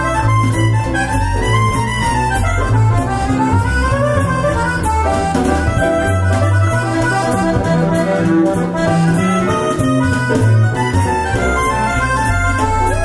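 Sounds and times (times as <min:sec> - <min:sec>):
music with bass and beat: 0:00.0 - 0:13.0.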